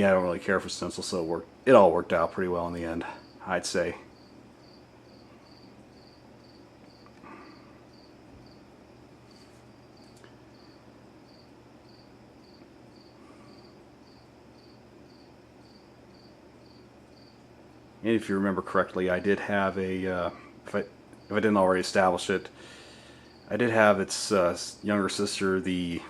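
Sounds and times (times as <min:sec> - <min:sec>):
cricket chirping: 0:00.0 - 0:26.0
faint low hum: 0:00.0 - 0:26.0.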